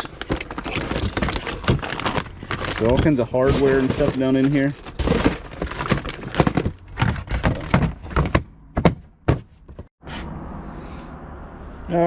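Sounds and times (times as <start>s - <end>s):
hardware rummaged in a box: 0.0s - 9.9s.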